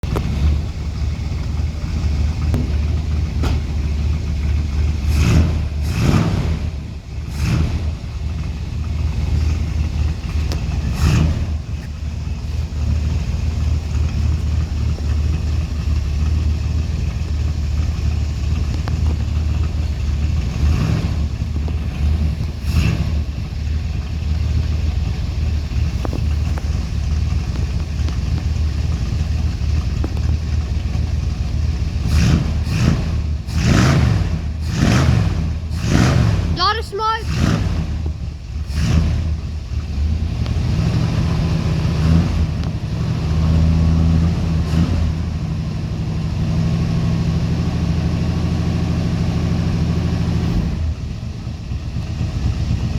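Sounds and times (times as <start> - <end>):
motor vehicle engine running: 0.0 - 52.9.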